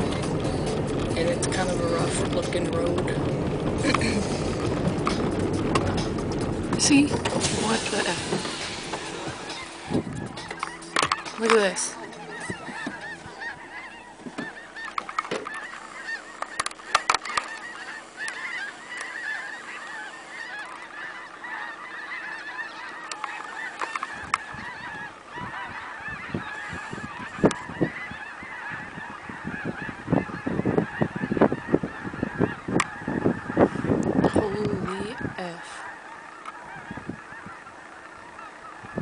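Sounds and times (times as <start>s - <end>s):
flock of birds calling: 0.0s - 39.0s.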